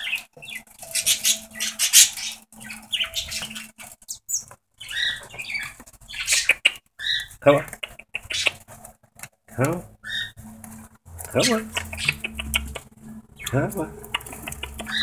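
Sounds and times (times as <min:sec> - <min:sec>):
budgerigars chirping: 0:00.0 - 0:08.8, 0:10.0 - 0:15.0.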